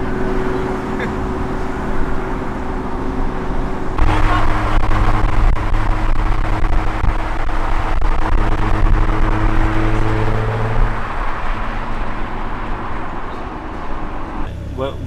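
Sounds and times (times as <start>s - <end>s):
car engine cruising drone: 0.0s - 15.0s
road and wind noise: 0.0s - 15.0s.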